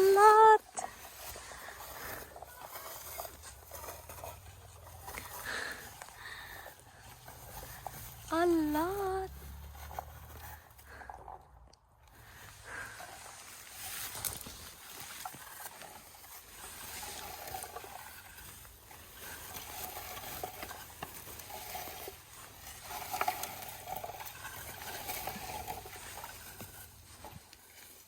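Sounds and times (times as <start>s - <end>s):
rustling in undergrowth: 0.0s - 28.0s.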